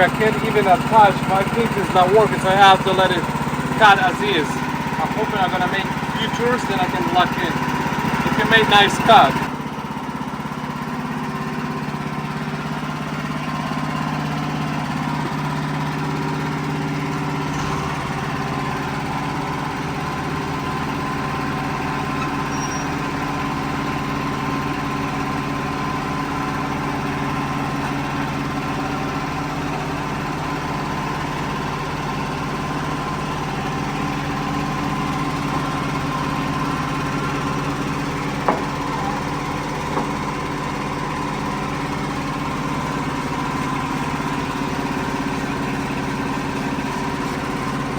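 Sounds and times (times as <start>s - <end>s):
band sawmill cutting log: 0.0s - 47.9s.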